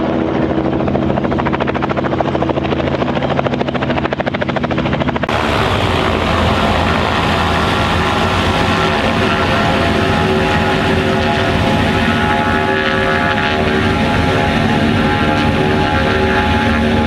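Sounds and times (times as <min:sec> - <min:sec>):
ultralight aircraft propeller engine: 0:00.0 - 0:17.0.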